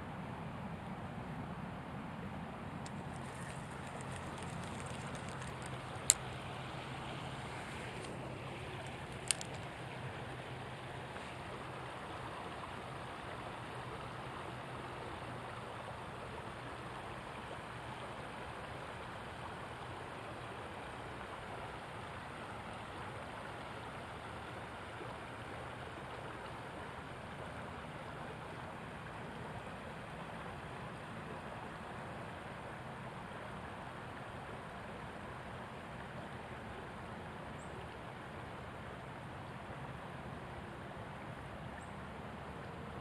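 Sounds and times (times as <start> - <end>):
creek water babbling over rocks: 0.4 - 43.0.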